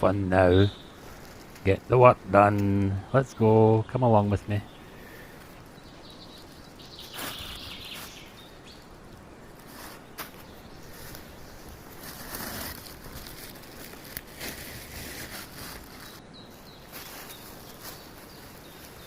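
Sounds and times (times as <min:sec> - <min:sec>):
rustles: 0:00.0 - 0:19.0
steady outdoor hiss: 0:00.0 - 0:19.0.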